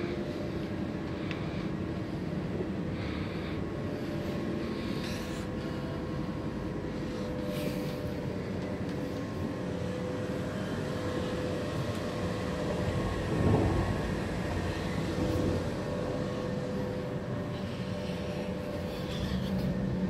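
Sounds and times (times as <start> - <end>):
constant hum: 0.0 - 20.0
train running rumble: 0.0 - 20.0.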